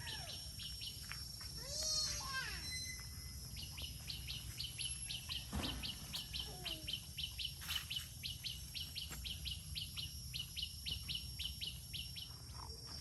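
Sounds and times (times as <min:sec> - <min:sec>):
bird chirping: 0:01.8 - 0:13.0.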